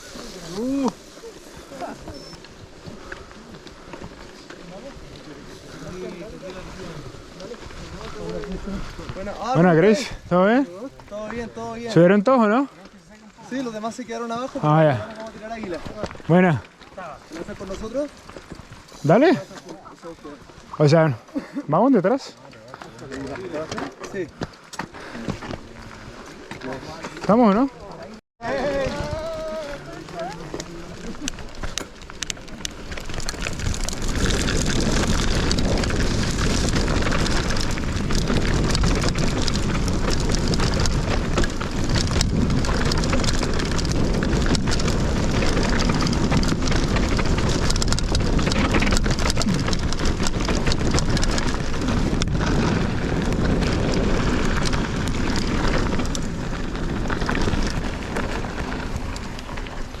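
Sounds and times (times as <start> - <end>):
bike rattling over rough ground: 0.0 - 60.0
wind and tyre noise: 0.0 - 60.0.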